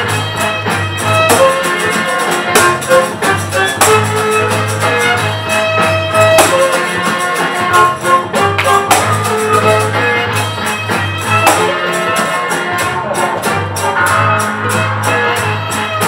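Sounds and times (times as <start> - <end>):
bass: 0.0 - 16.0
drums: 0.0 - 16.0
guitar: 0.0 - 16.0
held melody notes: 0.0 - 16.0.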